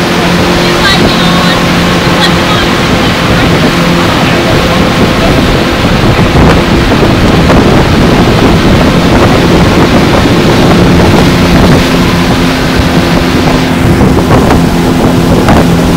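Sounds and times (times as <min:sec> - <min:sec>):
outboard motor running: 0:00.0 - 0:15.9
rush of churning wake: 0:00.0 - 0:15.9
wind buffeting microphone: 0:00.0 - 0:15.9.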